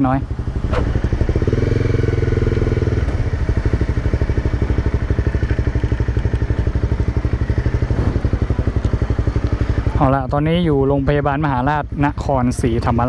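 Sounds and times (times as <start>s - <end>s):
motorcycle engine throbbing: 0.0s - 13.0s.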